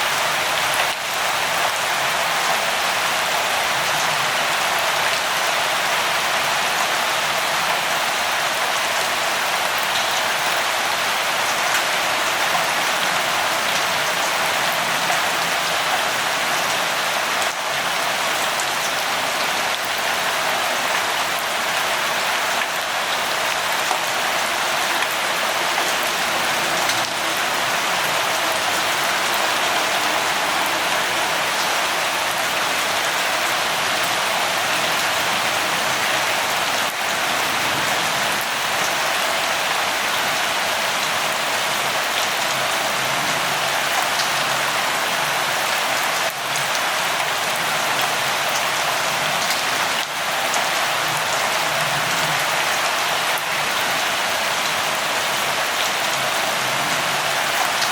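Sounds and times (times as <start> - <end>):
rain patter: 0.0 - 57.9.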